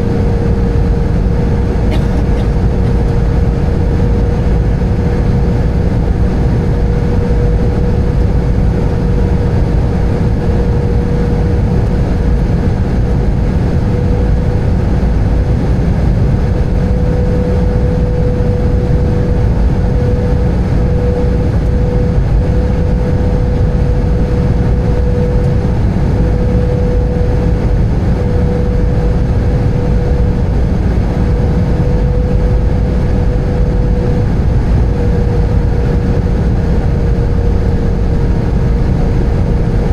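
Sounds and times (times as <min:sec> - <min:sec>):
aircraft cabin engine rumble: 0:00.0 - 0:39.9
mid-pitched engine tone: 0:00.0 - 0:39.9.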